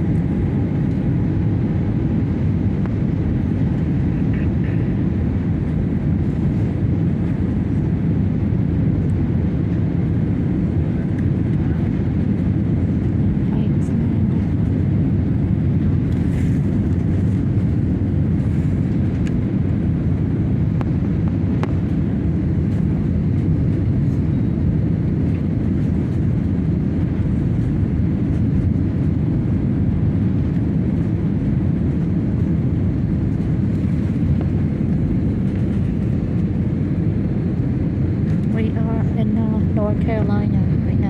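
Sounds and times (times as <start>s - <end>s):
jet engines rumbling in cabin: 0.0s - 41.0s.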